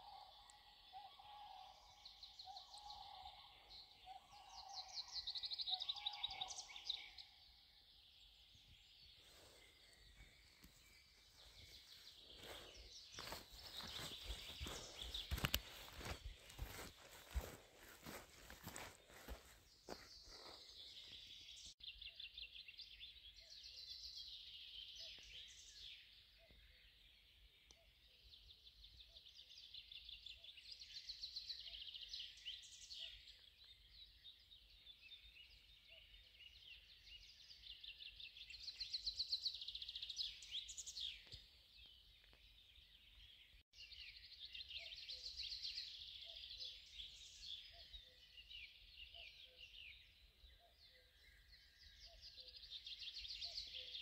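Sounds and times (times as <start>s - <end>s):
songbirds singing trills: 0.0s - 54.0s.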